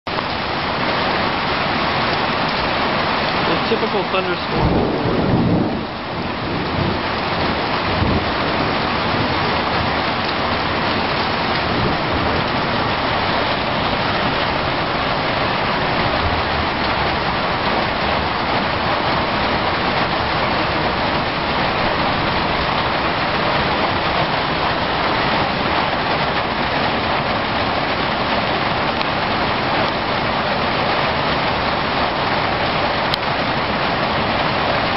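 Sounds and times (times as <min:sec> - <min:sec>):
heavy rain on leaves and grass: 0:00.0 - 0:34.9.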